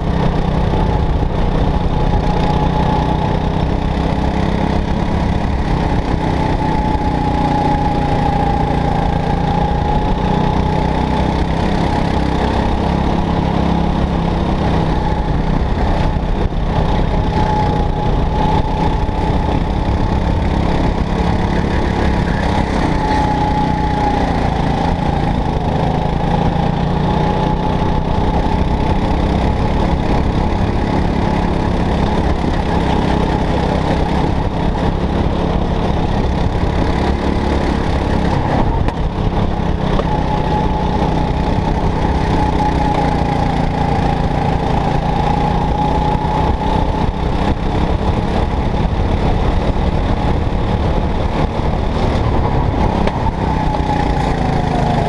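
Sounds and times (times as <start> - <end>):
go-kart engine running hard: 0.0 - 55.0.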